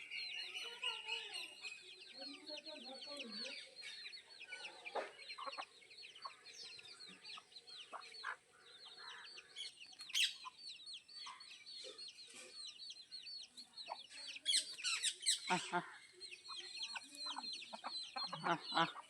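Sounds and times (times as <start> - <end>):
chickens clucking: 2.3 - 19.0.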